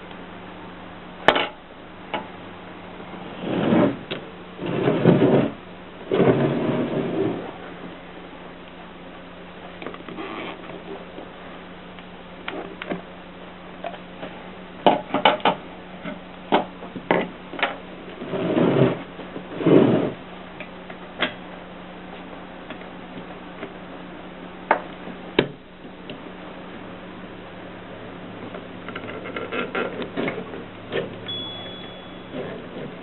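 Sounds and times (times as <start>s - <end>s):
faint steady hum: 0.0s - 33.0s
rasping mechanical noise: 1.2s - 33.0s.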